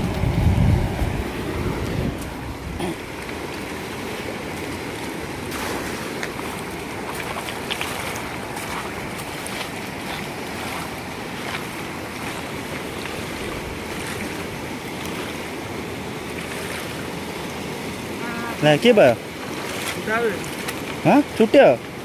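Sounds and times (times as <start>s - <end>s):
river rushing over stones: 0.0s - 22.0s.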